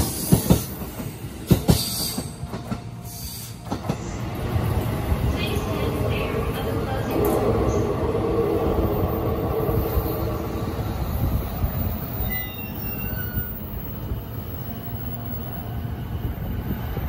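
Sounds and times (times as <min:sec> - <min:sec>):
electric train hum: 0:00.0 - 0:17.0.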